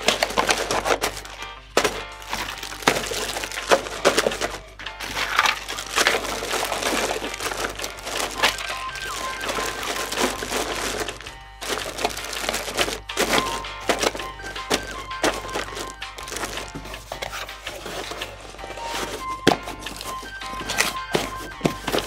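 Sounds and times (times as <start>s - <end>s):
faint background music: 0.0s - 22.0s
plastic bags crinkling: 0.0s - 22.0s.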